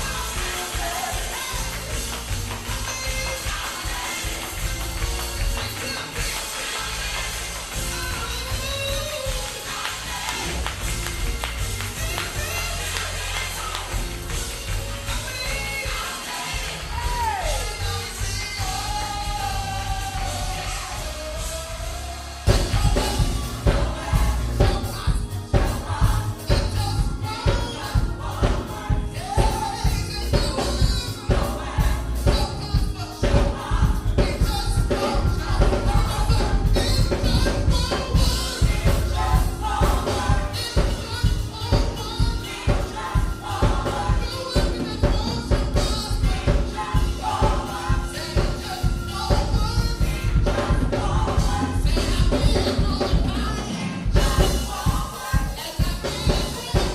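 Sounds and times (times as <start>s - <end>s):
choir singing gospel music: 0.0s - 56.9s
steady drum beat and bass: 0.0s - 56.9s.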